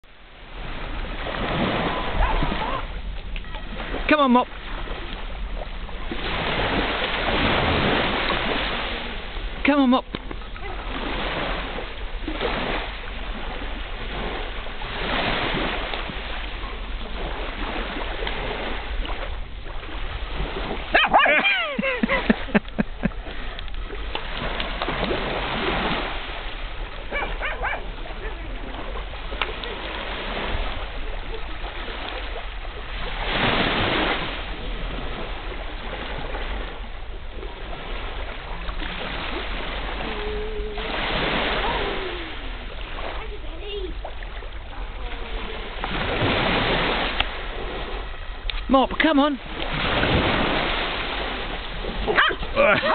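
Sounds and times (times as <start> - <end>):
waves washing onto shore: 0.0 - 52.9.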